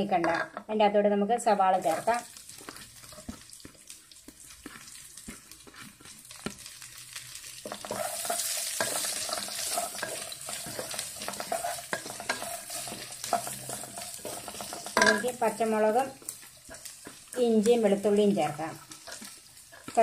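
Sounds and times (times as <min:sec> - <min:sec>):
onion sizzling in oil: 0:01.4 - 0:20.0
wooden spatula scraping: 0:01.8 - 0:06.7, 0:07.6 - 0:20.0.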